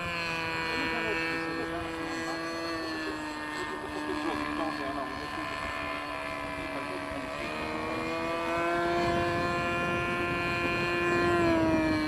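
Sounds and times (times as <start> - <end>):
model aircraft motor droning: 0.0 - 12.0.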